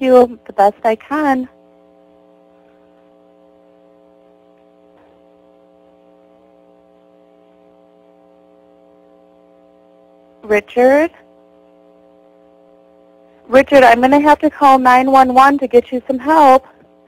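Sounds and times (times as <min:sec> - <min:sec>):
electrical hum on telephone line: 0:00.0 - 0:17.0.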